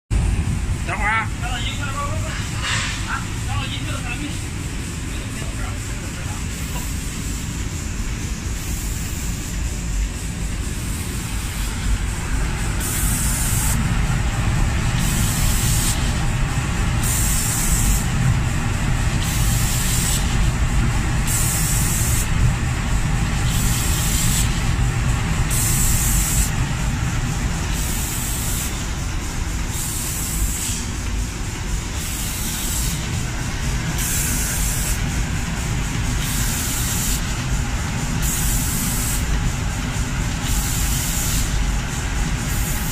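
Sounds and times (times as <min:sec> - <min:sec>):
low machine rumble: 0:00.1 - 0:42.9
spray guns hissing: 0:00.9 - 0:42.9.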